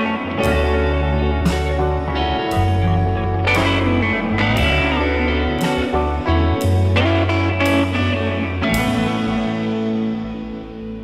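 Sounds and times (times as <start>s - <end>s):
background music: 0.0s - 11.0s
ringing chord: 0.0s - 11.0s.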